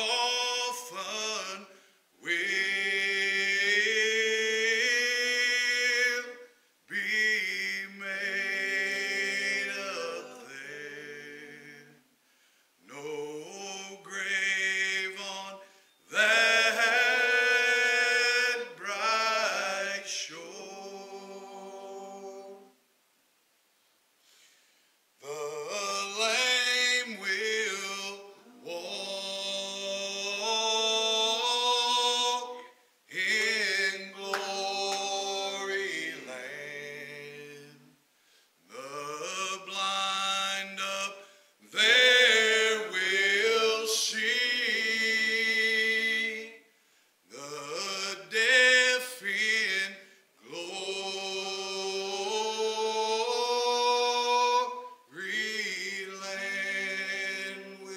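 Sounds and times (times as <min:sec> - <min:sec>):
group singing a cappella hymn: 0:00.0 - 0:12.1, 0:12.8 - 0:22.8, 0:25.2 - 0:38.0, 0:38.7 - 0:46.7, 0:47.3 - 0:57.9.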